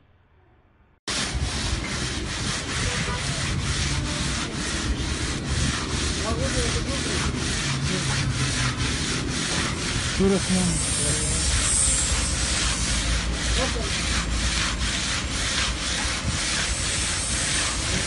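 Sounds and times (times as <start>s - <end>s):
ice cream churning scraping: 1.1s - 18.0s.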